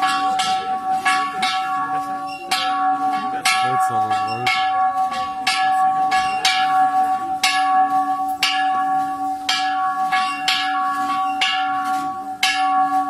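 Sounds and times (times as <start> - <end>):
church bell ringing: 0.0 - 13.0.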